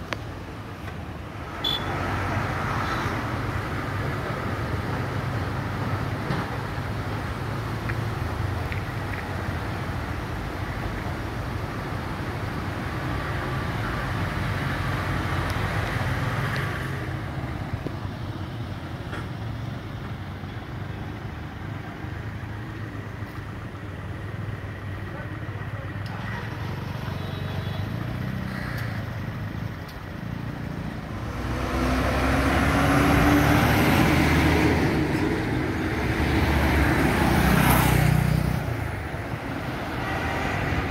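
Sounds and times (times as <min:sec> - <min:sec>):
road traffic rumble and hiss: 0:00.0 - 0:40.9.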